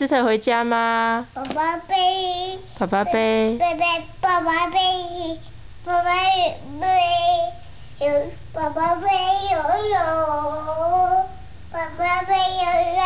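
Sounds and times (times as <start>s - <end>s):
toddler singing: 1.4s - 2.7s, 3.6s - 13.0s.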